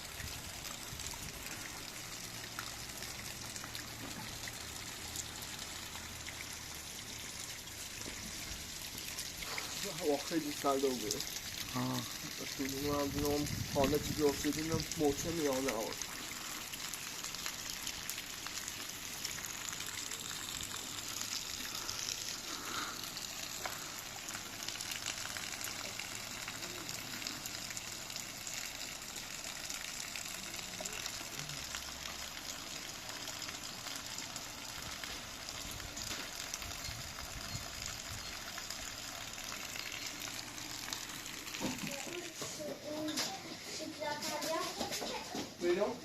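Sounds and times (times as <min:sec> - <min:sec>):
heavy rain falling: 0:07.7 - 0:45.9.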